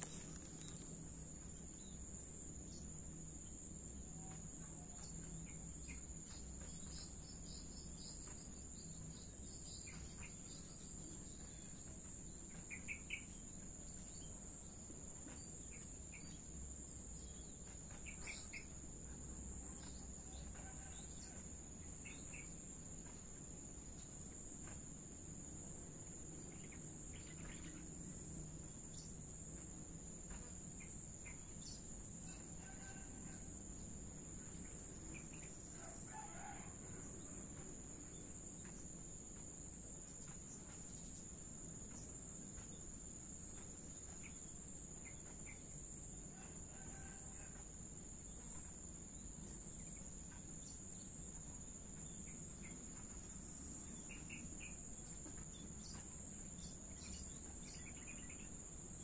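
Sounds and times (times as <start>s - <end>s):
crickets trilling: 0.0s - 59.0s.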